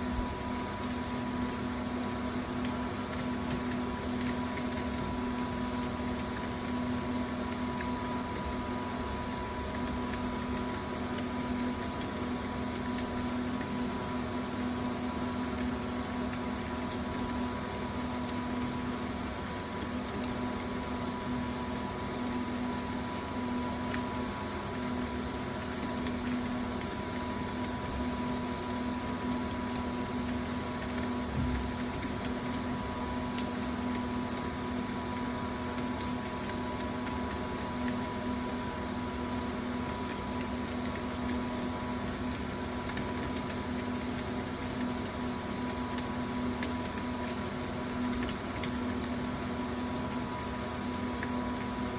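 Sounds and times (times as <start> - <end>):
electrical hum with tones: 0.0 - 51.9.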